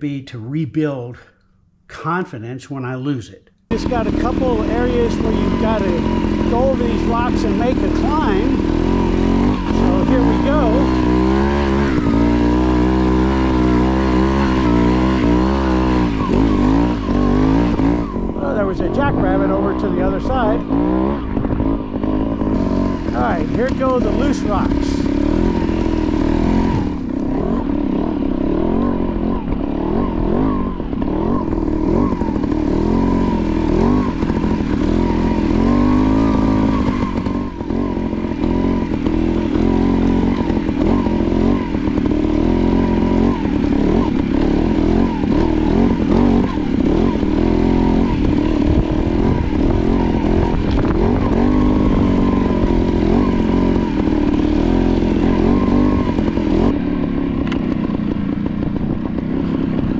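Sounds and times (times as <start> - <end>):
motorcycle engine revving: 3.6 - 59.9.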